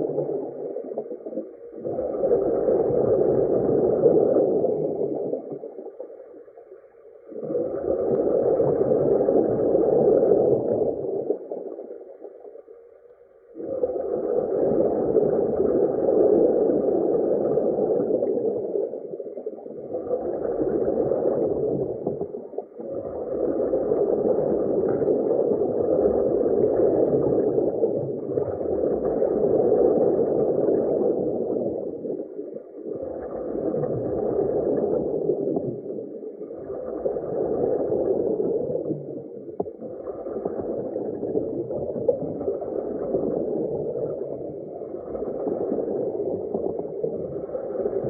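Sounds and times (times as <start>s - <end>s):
underwater rush and gurgle: 0.0s - 48.0s.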